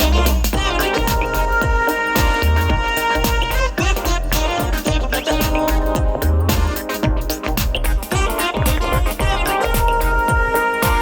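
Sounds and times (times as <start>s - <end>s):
instrumental music with heavy bass: 0.0s - 11.0s.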